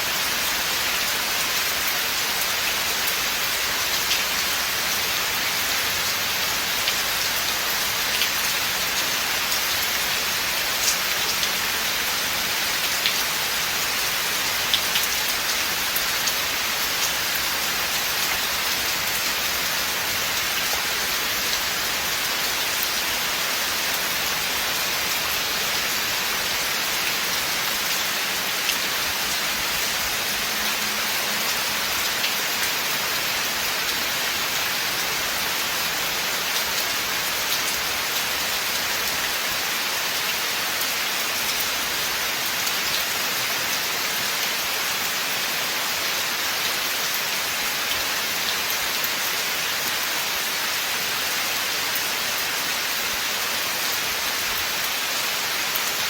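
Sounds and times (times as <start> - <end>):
rain falling on forest: 0.0 - 56.0.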